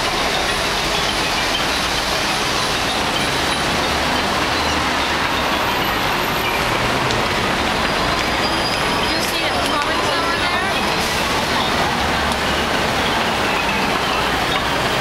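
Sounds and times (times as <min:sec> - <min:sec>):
heavy city traffic: 0:00.0 - 0:15.0.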